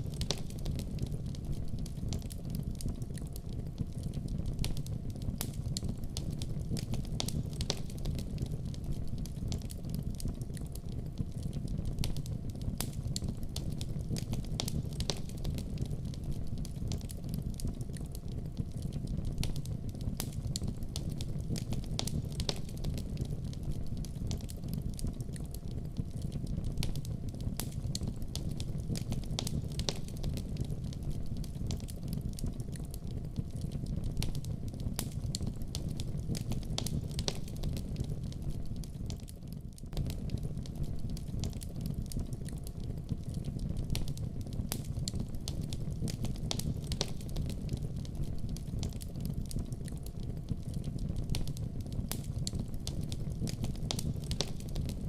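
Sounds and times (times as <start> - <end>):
fire burning: 0.0 - 55.0.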